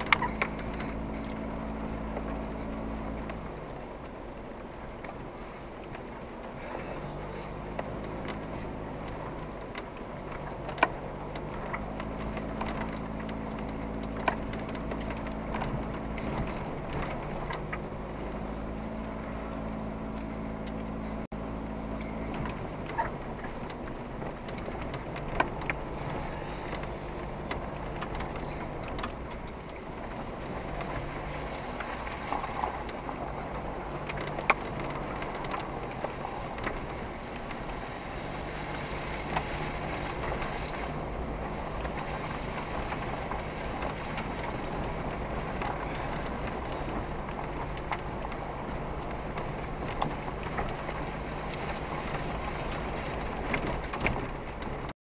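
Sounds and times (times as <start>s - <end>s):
car knocks and clicks over bumps: 0.0s - 54.9s
car engine hum: 0.0s - 55.0s.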